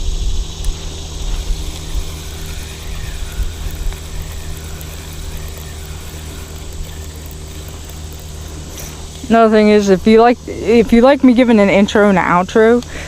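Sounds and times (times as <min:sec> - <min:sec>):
engine running at low speed: 0:00.0 - 0:13.0.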